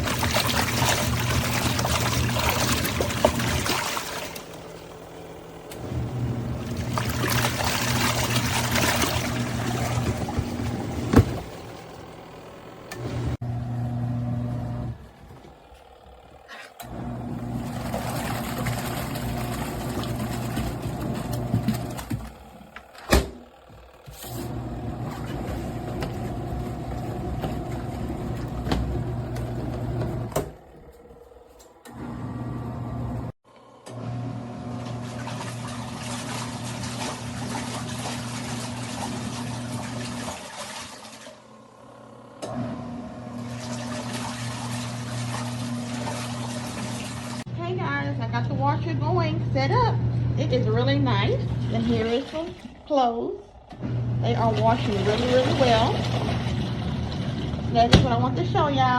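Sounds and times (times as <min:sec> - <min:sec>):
washing machine motor humming: 0:00.0 - 0:58.9.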